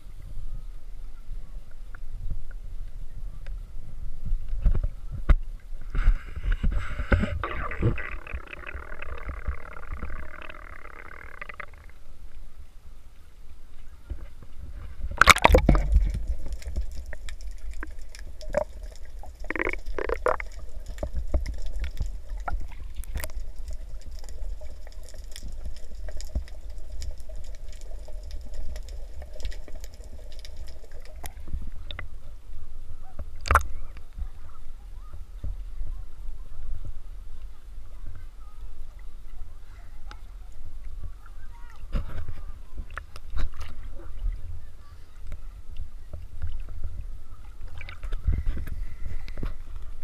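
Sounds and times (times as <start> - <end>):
constant low rumble: 0.0 - 50.0
faint steady hum: 0.0 - 50.0.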